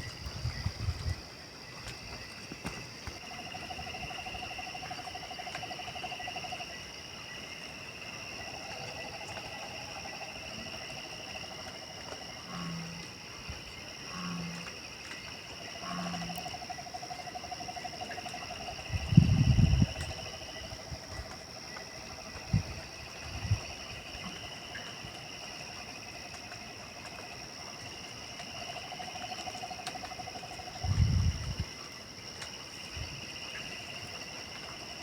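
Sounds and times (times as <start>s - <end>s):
high insect drones: 0.0s - 35.0s.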